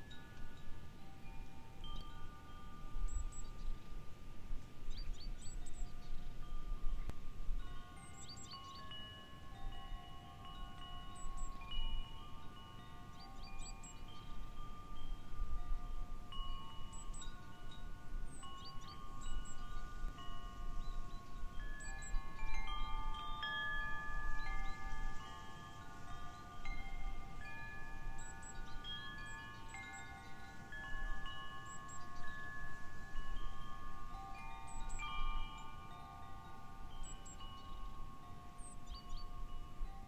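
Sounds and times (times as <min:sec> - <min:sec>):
low rumble of wind: 0:00.0 - 0:40.0
wind chimes ringing: 0:00.0 - 0:40.0.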